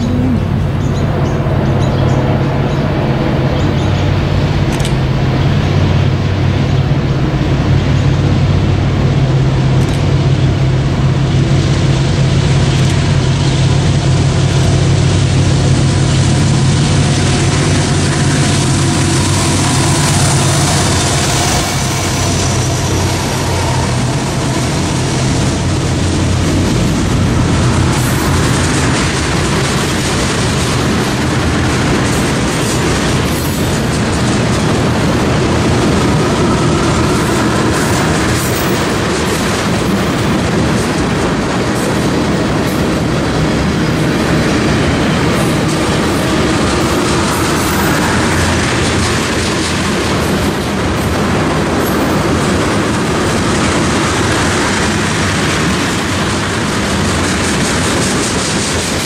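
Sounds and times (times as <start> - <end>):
diesel locomotive engine drone: 0.0 - 59.0
train wheels rolling on rails: 0.0 - 59.0.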